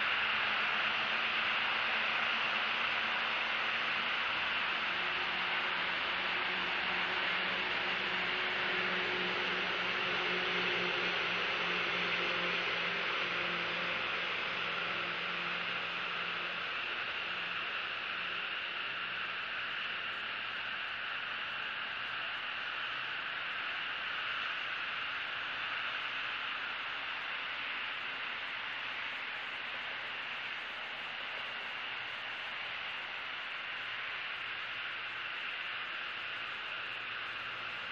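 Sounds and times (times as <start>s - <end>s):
outdoor background hiss: 0.0s - 37.9s.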